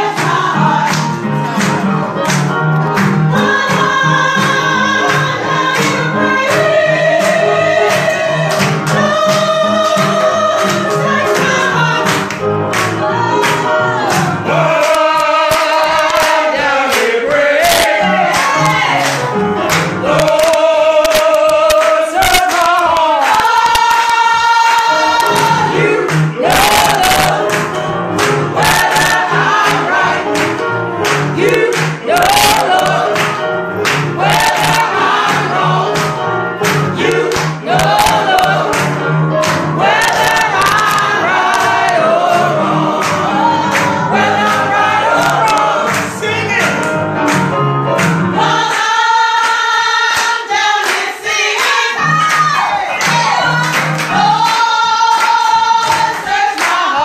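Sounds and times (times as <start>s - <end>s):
choir singing gospel song: 0.0s - 57.0s
grand piano: 0.0s - 57.0s
people clapping along: 0.0s - 57.0s.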